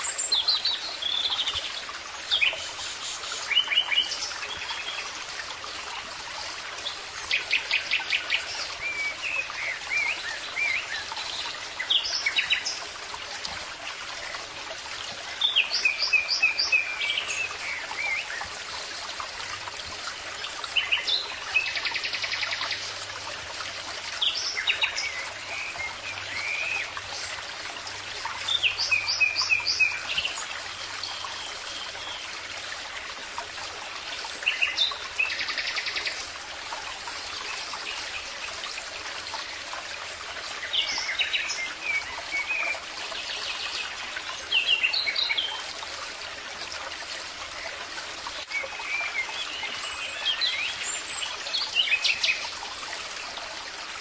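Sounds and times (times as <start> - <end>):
running water trickling: 0.0 - 54.0.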